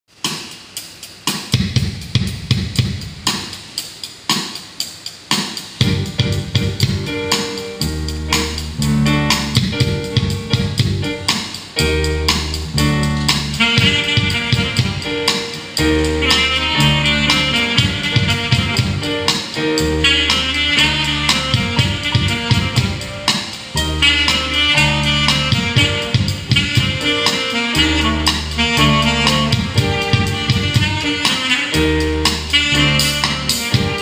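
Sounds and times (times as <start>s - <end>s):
drum kit beat: 0.1s - 34.0s
bass guitar: 5.8s - 34.0s
higher melodic line: 5.8s - 34.0s
keyboard: 5.8s - 34.0s.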